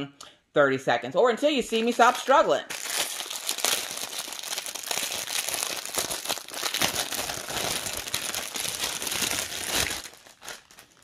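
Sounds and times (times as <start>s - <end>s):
plastic packaging crinkling: 1.9s - 11.0s.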